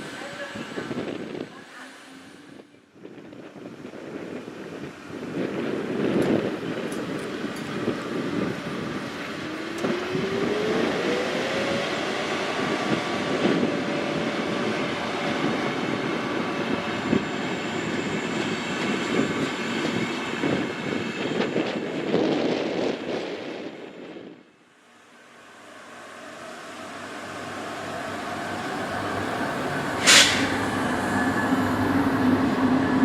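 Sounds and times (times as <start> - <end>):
train wheels rumbling on rails: 0.0 - 24.2, 25.6 - 33.0
electric train whine: 0.0 - 33.0.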